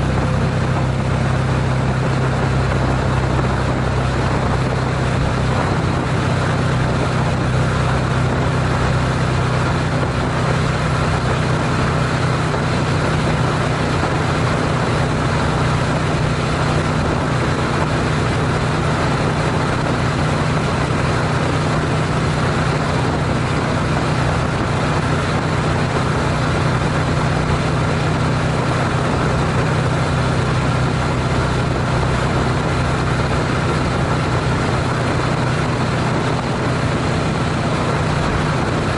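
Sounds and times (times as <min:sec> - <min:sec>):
motorcycle engine humming: 0:00.0 - 0:38.9
wind and tyre noise: 0:00.0 - 0:38.9.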